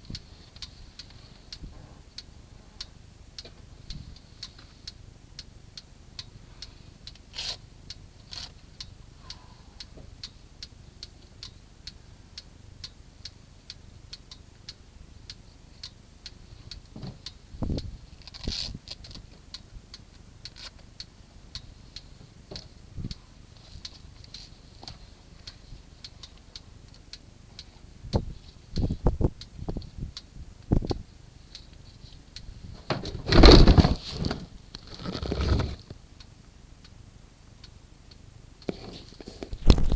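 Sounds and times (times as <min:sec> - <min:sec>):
steady rhythmic ticking: 0:00.0 - 0:18.3, 0:18.9 - 0:32.8, 0:36.0 - 0:38.7.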